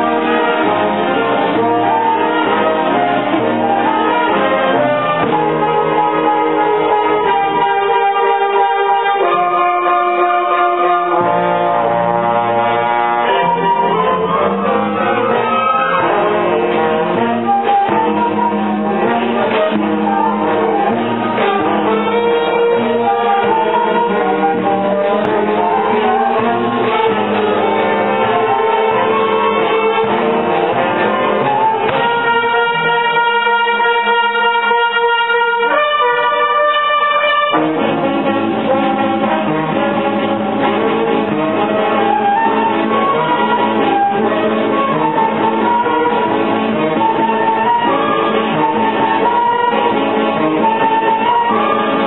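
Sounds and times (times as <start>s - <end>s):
brass music: 0.0s - 52.0s.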